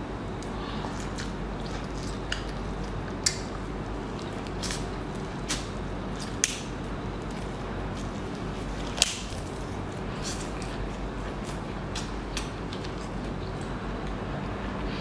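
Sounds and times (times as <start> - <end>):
steady low hum: 0.0 - 15.0
sharp crunchy clicks: 0.4 - 14.2
biting into crab legs: 0.8 - 13.7.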